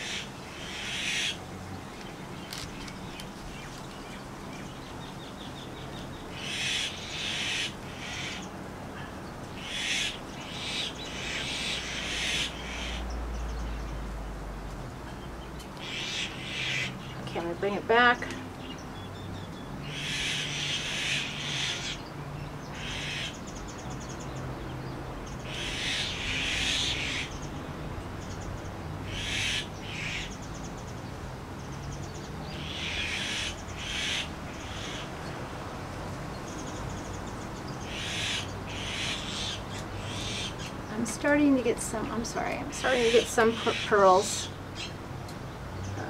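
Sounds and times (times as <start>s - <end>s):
birds calling: 0.0s - 46.0s.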